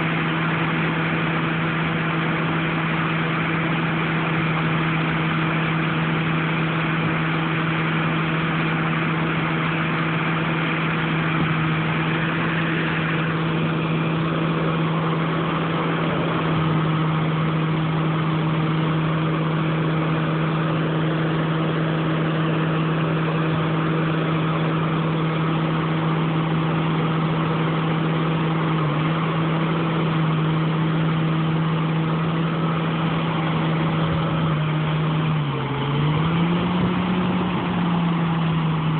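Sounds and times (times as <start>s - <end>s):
diesel machinery running: 0.0s - 38.9s.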